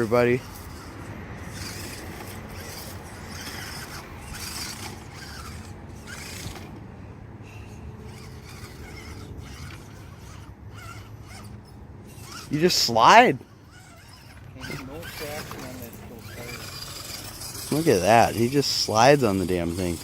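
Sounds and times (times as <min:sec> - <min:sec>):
toy car electric motor humming: 0:00.0 - 0:20.0.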